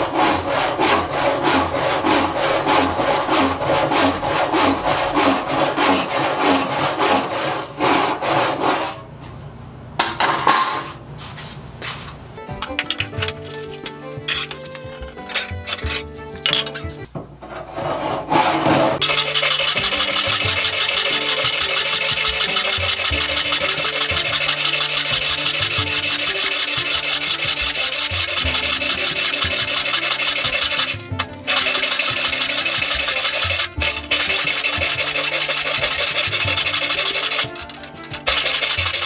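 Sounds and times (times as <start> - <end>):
background music with low notes: 0.0 - 8.3, 12.4 - 39.0
hand saw cutting wood: 0.0 - 9.0, 13.1 - 39.0.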